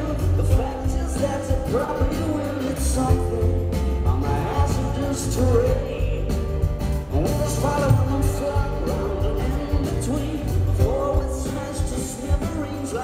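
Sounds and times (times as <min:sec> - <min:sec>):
live rock band playing: 0:00.0 - 0:13.0
man singing lead vocal: 0:00.0 - 0:13.0.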